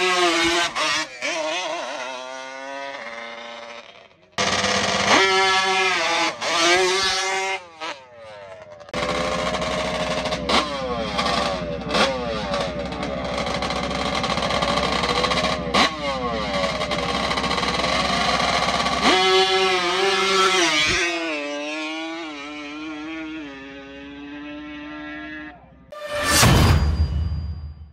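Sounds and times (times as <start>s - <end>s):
quad engine revving: 0.0s - 25.7s.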